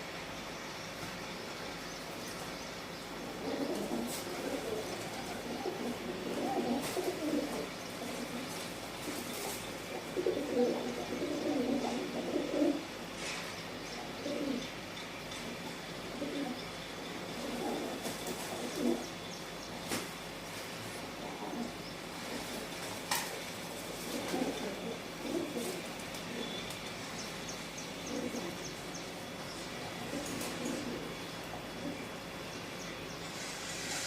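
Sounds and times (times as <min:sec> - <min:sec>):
pigeons cooing: 0:03.0 - 0:34.0.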